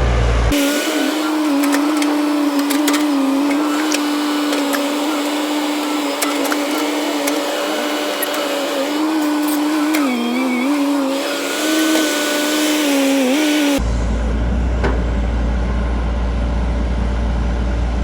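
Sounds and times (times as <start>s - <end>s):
excavator engine and hydraulic whine: 0.0s - 18.0s.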